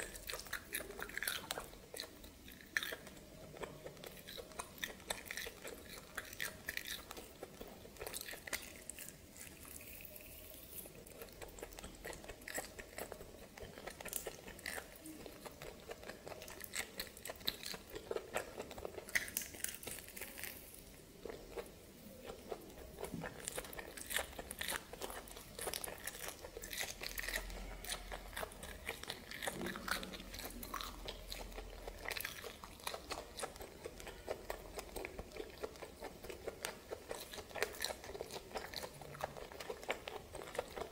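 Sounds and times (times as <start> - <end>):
person biting and chewing: 0.0 - 40.9.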